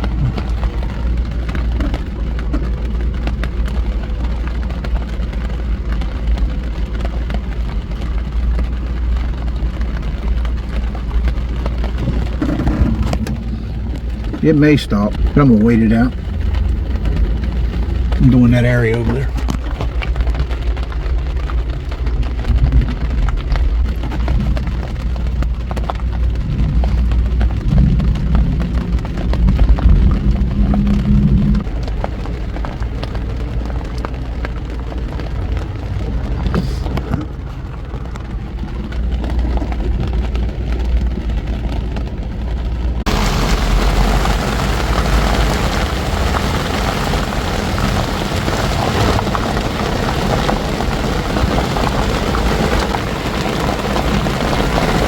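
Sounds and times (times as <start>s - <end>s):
rain: 0.0s - 55.0s.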